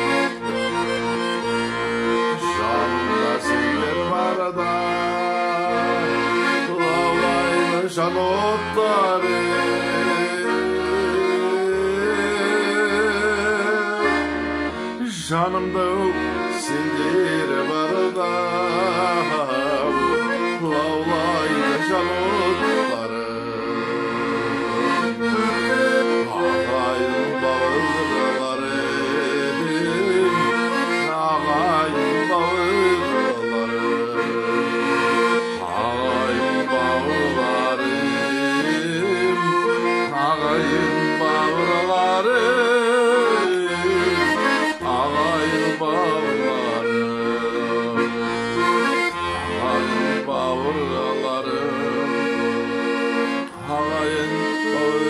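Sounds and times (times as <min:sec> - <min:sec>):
button accordion folk tune: 0:00.0 - 0:55.0
man singing: 0:00.0 - 0:55.0.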